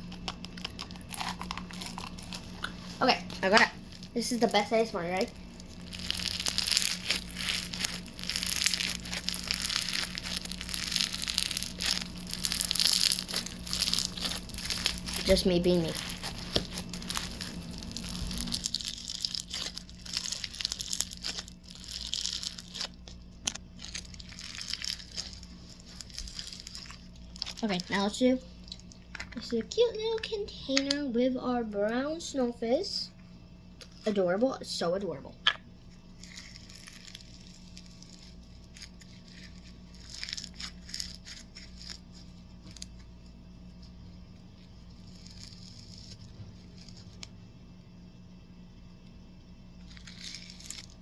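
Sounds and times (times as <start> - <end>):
plastic packaging crinkling: 0.0 - 30.9, 36.0 - 43.2, 44.6 - 47.3, 49.8 - 51.0.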